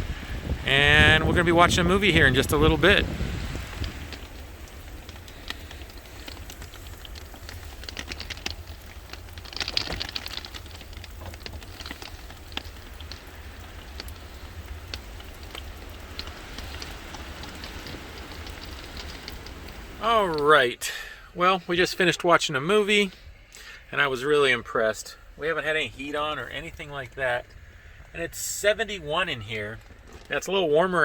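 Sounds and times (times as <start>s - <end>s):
raindrops tapping on surfaces: 0.0s - 21.1s, 25.4s - 31.0s
low wind rumble: 0.0s - 31.0s
steady rain: 0.0s - 31.0s.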